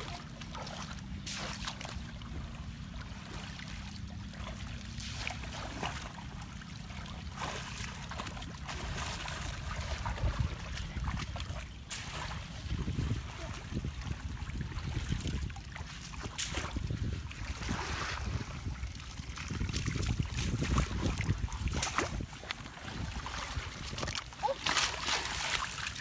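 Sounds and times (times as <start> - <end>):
legs wading in water: 0.0 - 26.0
muddy water splashing: 0.0 - 26.0
steady low rumble: 0.0 - 26.0.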